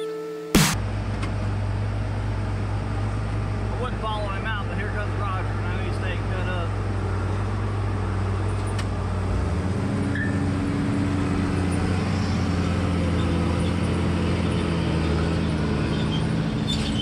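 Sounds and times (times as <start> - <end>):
heavy diesel engines running: 0.8 - 17.0.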